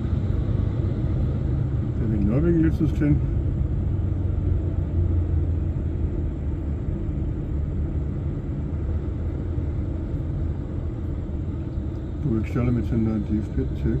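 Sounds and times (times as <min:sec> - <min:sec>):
truck diesel engine droning: 0:00.0 - 0:14.0.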